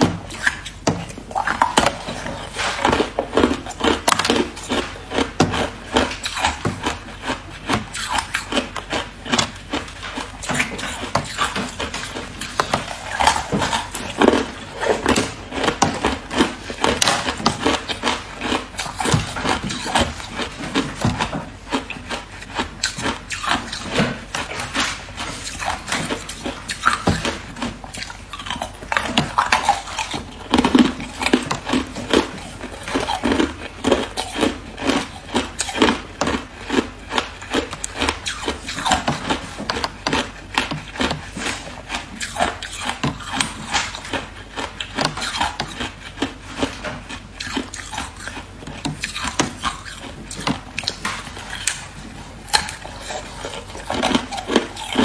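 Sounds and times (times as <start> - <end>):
person crunching ice: 1.3 - 46.8, 47.4 - 51.9.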